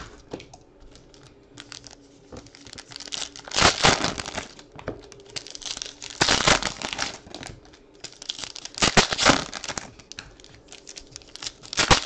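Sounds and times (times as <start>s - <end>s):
foil wrapper crinkling and tearing: 0.9s - 12.0s.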